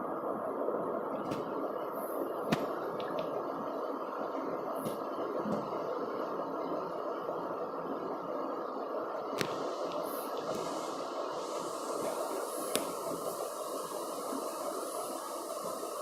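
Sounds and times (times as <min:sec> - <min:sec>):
room background noise: 0:00.0 - 0:16.0.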